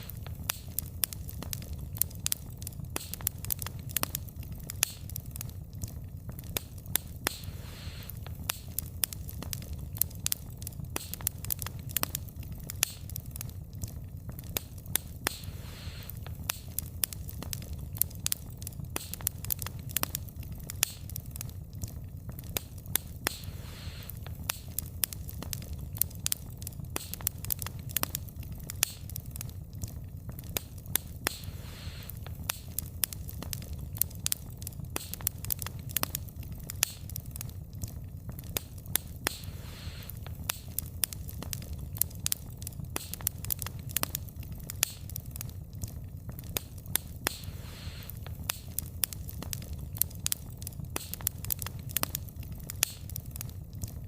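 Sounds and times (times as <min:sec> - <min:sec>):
burning logs crackling and popping: 0:00.0 - 0:54.0
flame rumble: 0:00.0 - 0:54.0.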